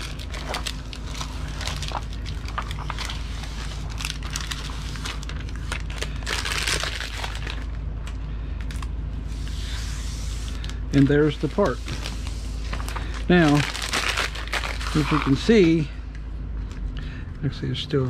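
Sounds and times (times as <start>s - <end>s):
vinyl peeling and crinkling: 0.0s - 7.8s, 8.6s - 15.9s.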